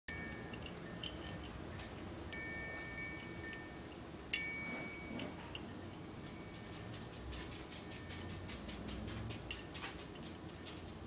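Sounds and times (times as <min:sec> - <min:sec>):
glass prisms tinkling: 0:00.1 - 0:11.0.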